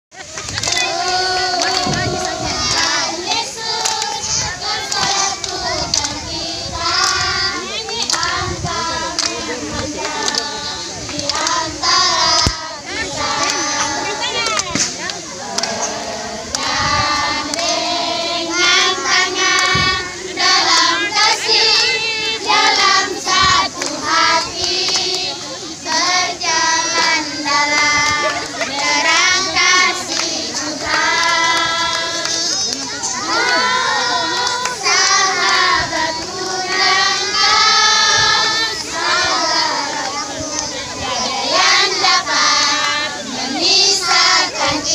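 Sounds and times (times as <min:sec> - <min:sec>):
children singing: 0:00.4 - 0:44.9.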